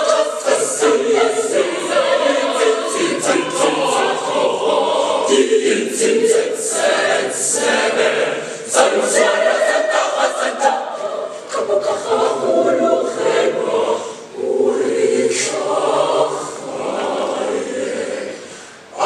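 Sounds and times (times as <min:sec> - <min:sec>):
choir singing unaccompanied: 0:00.0 - 0:19.0.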